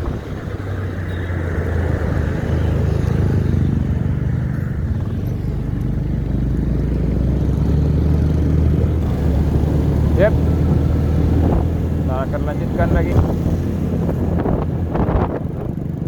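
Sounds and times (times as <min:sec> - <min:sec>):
motor engine humming: 0:00.0 - 0:16.0.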